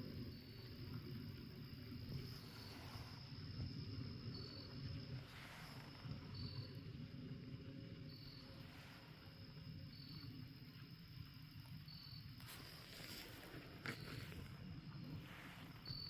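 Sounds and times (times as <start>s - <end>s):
crickets chirping: 0.0s - 16.0s
faint steady hiss: 0.0s - 16.0s.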